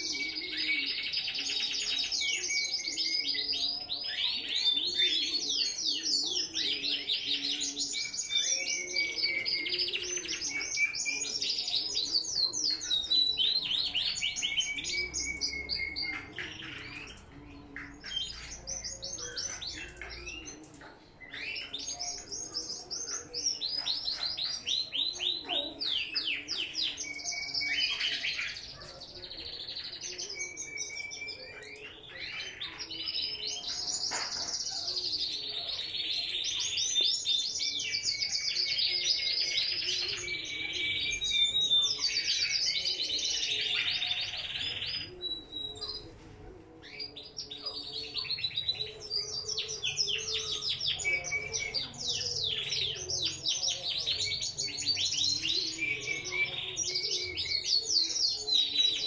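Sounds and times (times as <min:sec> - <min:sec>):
small birds singing trills: 0:00.0 - 0:59.0.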